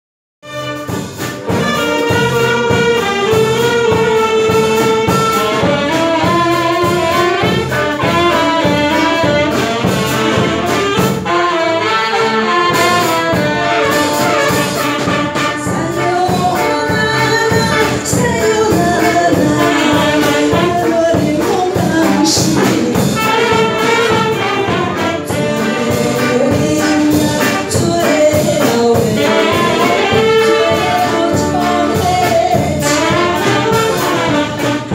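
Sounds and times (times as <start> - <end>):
saxophones and brass melody: 0.4 - 34.9
steady drum beat: 0.4 - 34.9.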